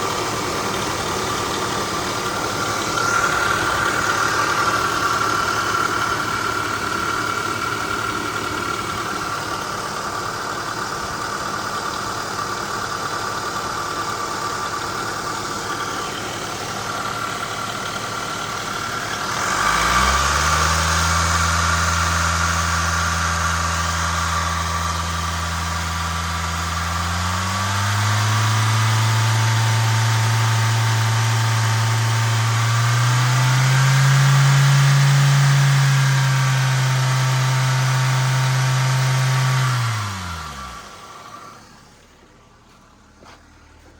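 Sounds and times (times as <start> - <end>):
deep steady engine note: 0.0 - 43.9
van engine running: 0.0 - 43.9.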